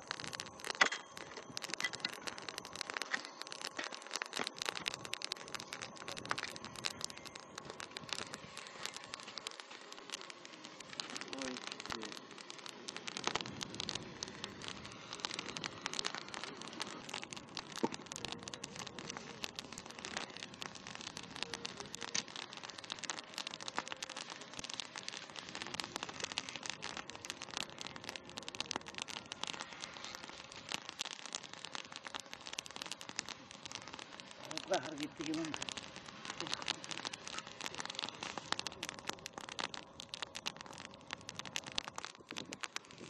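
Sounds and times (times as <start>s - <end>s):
wood fire crackling and popping: 0.0s - 43.0s.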